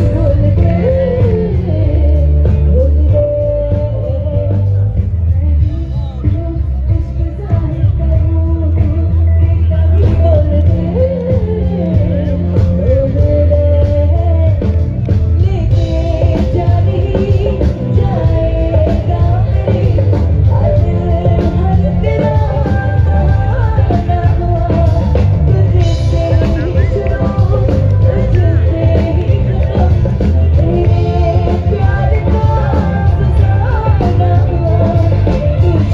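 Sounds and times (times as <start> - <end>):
drums: 0.0 - 35.9
heavy bass: 0.0 - 35.9
person singing: 0.0 - 35.9.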